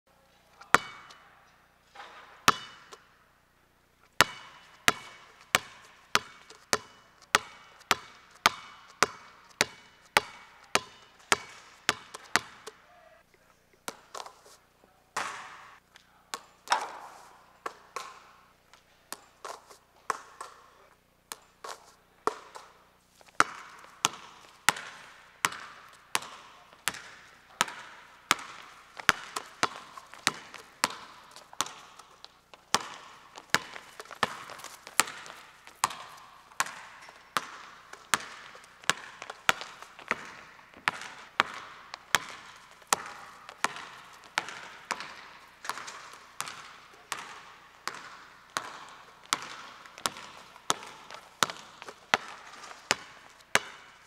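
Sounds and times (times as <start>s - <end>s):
basketball bouncing on wooden floor: 2.0s - 3.1s, 4.2s - 12.8s, 19.1s - 20.6s, 21.3s - 54.0s.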